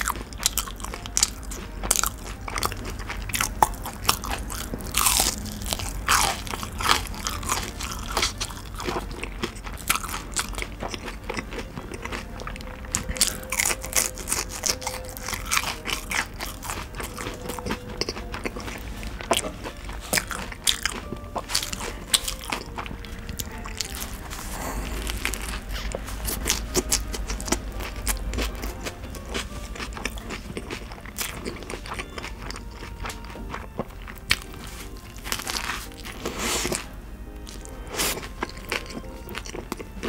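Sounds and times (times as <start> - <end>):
crunchy biting and chewing: 0.0 - 40.0.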